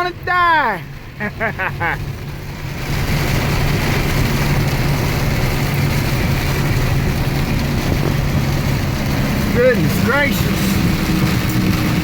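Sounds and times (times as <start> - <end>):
rain and wet road noise: 0.0 - 12.0
truck engine hum: 0.0 - 12.0.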